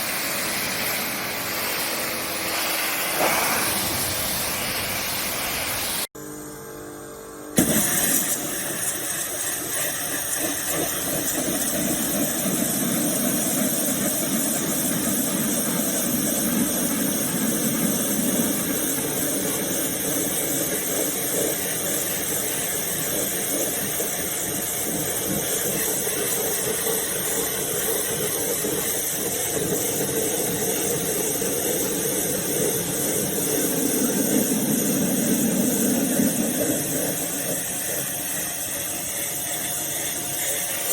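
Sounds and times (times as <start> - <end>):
pressure washer spraying: 0.0 - 6.1, 7.6 - 40.9.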